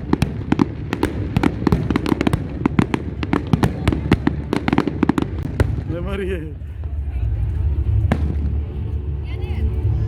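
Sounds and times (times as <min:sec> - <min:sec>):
fireworks cracking and banging: 0:00.0 - 0:09.0.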